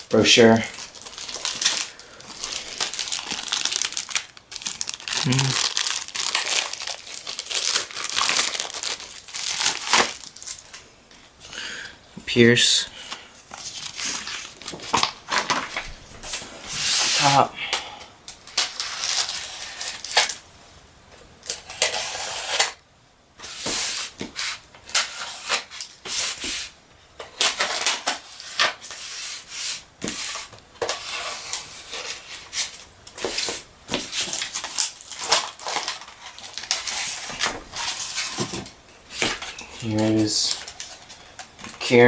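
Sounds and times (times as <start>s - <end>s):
packaging rustling and scraping: 0.0s - 11.4s, 13.0s - 17.5s, 18.3s - 20.4s, 21.4s - 22.8s, 23.4s - 42.0s.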